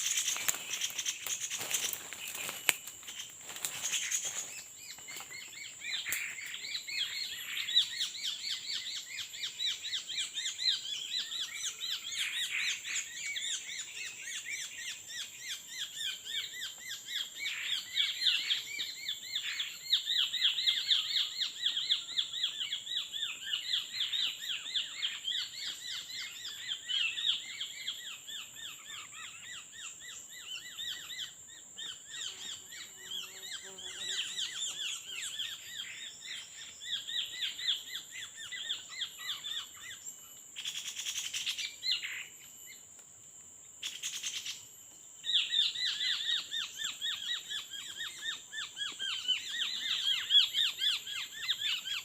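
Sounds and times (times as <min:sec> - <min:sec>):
birds chattering chirps: 0:00.0 - 0:42.9, 0:43.8 - 0:52.0.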